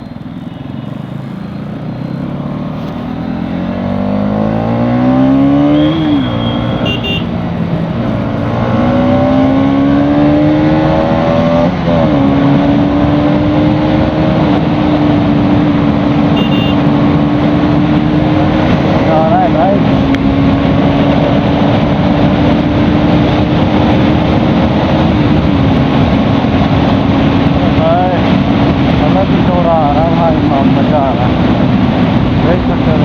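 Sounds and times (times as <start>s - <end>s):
motorcycle engine accelerating: 0.0s - 33.0s
wind noise: 4.8s - 33.0s.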